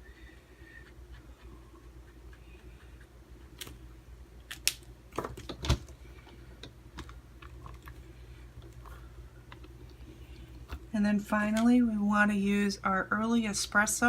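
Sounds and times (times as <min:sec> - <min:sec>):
low steady room hum: 0:00.0 - 0:14.0.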